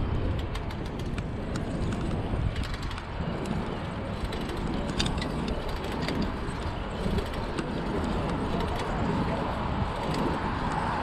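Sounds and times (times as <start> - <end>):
bike clicks and rattles: 0.0 - 11.0
road rumble: 0.0 - 11.0
wind on microphone: 0.0 - 11.0.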